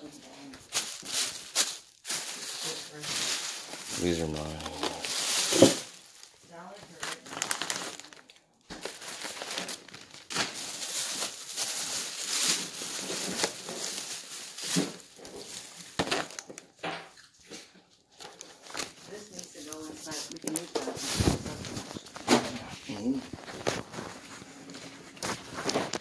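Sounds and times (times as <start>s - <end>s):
plastic packaging crinkling: 0.2s - 17.4s, 18.1s - 26.0s.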